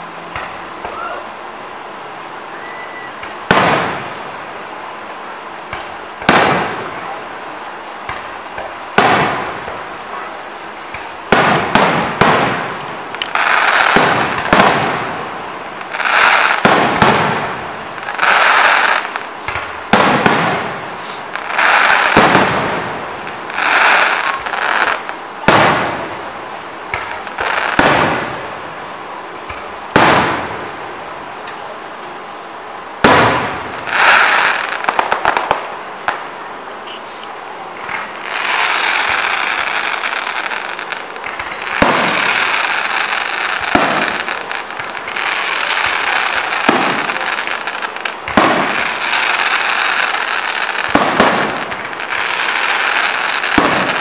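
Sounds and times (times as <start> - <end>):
fireworks bursting bangs: 0.0 - 54.0.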